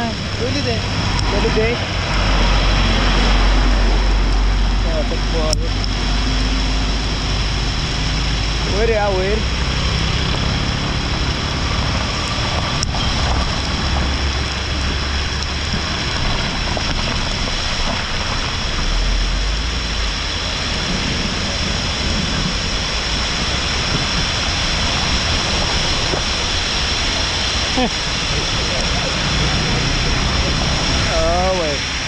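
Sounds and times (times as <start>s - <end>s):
car driving through water: 0.0s - 32.0s
rainwater rushing down slope: 0.0s - 32.0s.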